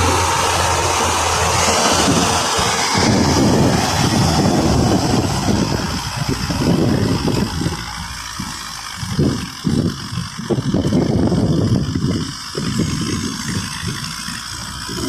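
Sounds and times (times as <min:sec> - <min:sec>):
tractor diesel engine rumble: 0:00.0 - 0:15.0
wind or tyre noise: 0:00.0 - 0:15.0.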